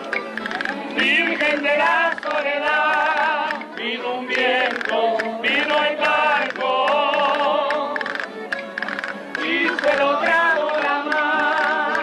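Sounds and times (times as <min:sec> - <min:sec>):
man singing folk song: 0:00.9 - 0:08.1, 0:09.4 - 0:12.0.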